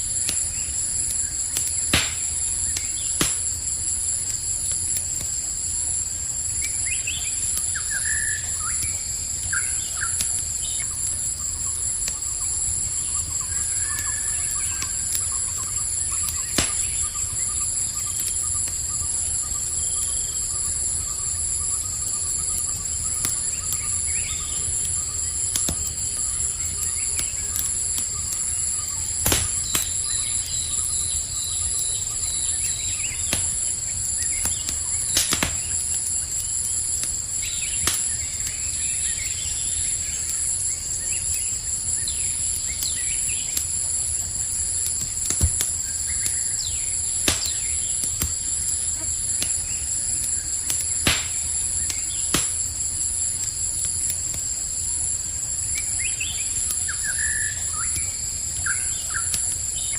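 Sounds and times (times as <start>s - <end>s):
campfire crackling: 0.0s - 59.9s
crickets chirring: 0.0s - 59.9s.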